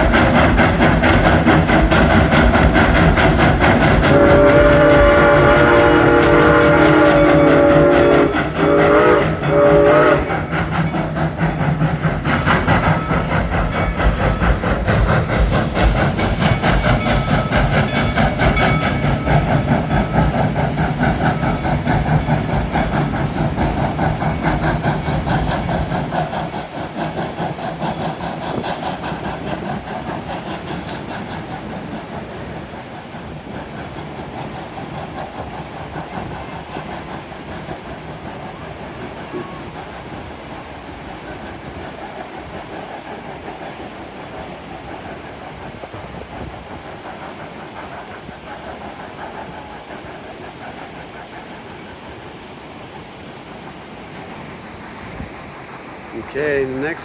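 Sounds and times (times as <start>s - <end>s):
rattle of train cars: 0.0s - 57.0s
steam hissing: 0.0s - 57.0s
steam locomotive exhaust beats: 0.0s - 57.0s.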